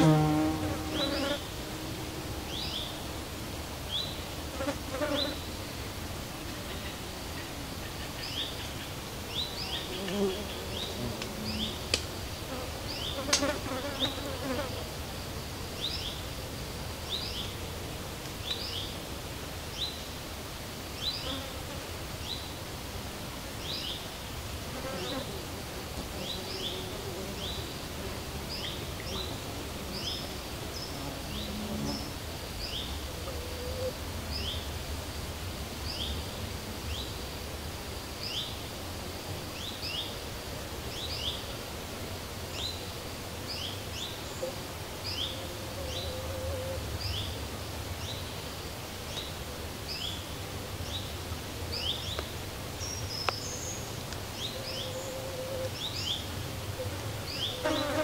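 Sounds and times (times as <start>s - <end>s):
insects buzzing: 0.0s - 58.0s.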